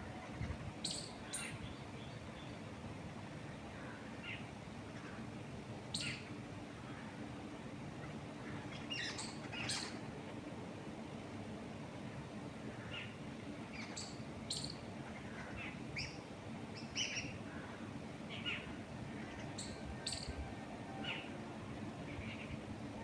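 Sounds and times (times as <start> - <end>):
wild birds chirping: 0.0 - 10.2, 12.6 - 23.0.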